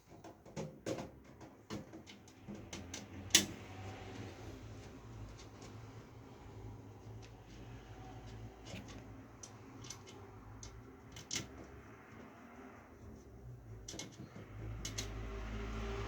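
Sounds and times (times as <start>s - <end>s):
small parts clicking and tapping: 0.0s - 6.0s, 7.0s - 12.4s, 13.7s - 16.0s.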